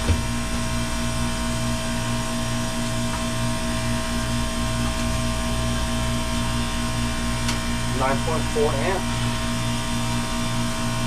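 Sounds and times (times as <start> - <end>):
ice machine humming: 0.0 - 11.0.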